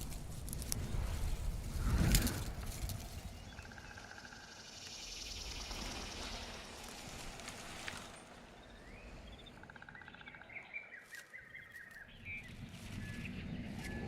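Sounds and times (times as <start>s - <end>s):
faint outdoor background: 0.0s - 14.0s
birds chirping and trilling: 0.8s - 14.0s.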